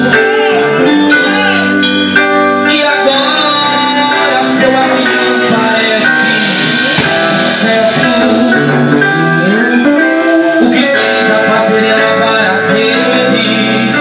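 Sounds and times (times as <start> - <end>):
band playing: 0.0 - 14.0
guitar: 0.0 - 14.0
person singing: 0.0 - 14.0.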